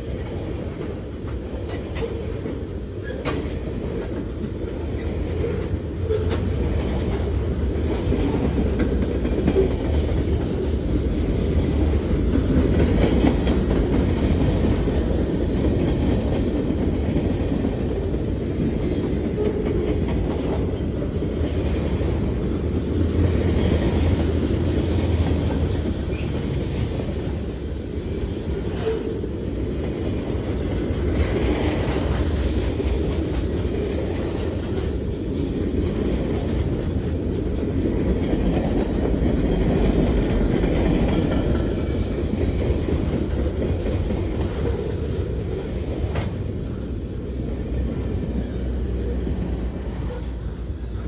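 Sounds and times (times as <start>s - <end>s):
steel wheels rumbling on rail: 0.0s - 51.0s.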